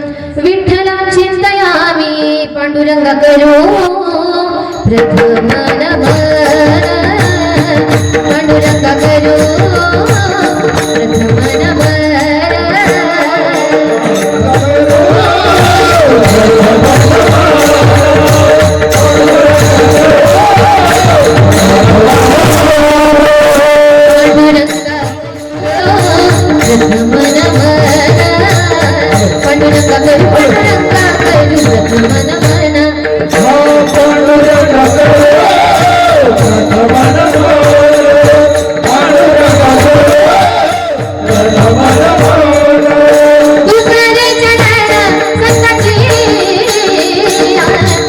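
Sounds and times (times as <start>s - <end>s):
harmonium melody: 4.2s - 48.0s.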